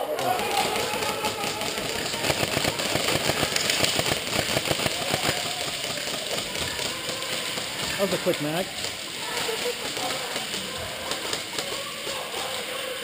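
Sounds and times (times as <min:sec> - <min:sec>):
airsoft rifle firing: 0:00.4 - 0:12.1.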